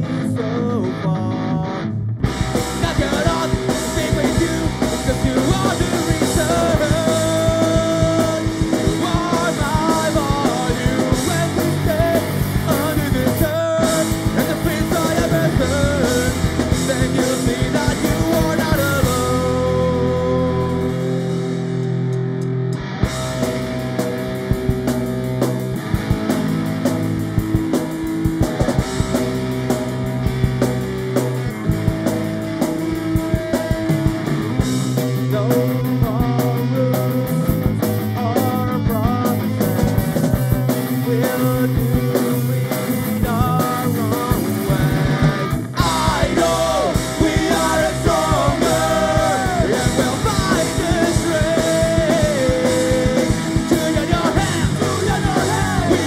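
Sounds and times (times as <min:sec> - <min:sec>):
electric guitar lead with bent notes: 0:00.0 - 0:56.0
rock band playing live: 0:00.0 - 0:56.0.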